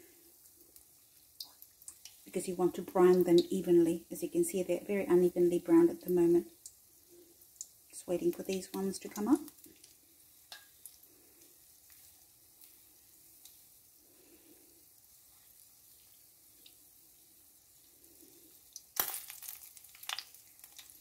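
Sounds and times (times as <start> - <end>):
dough sizzling in oil: 0.0 - 21.0.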